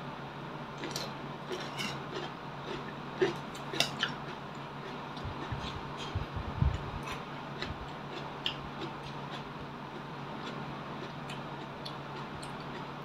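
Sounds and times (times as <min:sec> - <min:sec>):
steady low hum: 0:00.0 - 0:13.0
chewing crunchy fruit: 0:00.8 - 0:13.0.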